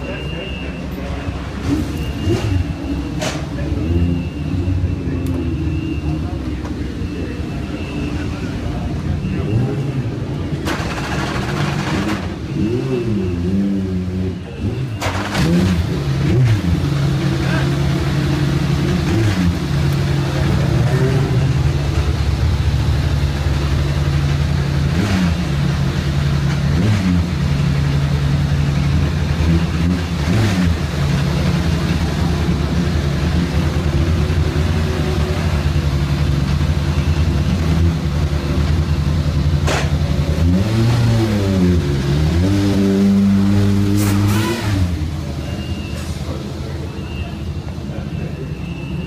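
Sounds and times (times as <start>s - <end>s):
race car engine idling and revving: 0.0s - 49.0s.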